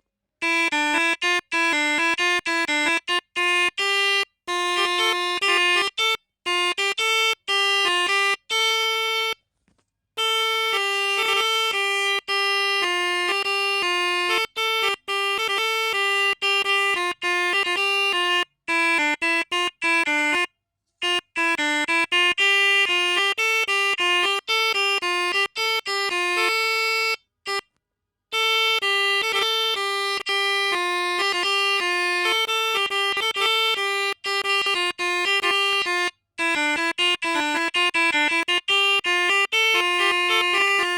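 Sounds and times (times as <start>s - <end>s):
melodica playing short notes: 0.4s - 9.4s, 10.2s - 27.7s, 28.3s - 40.9s.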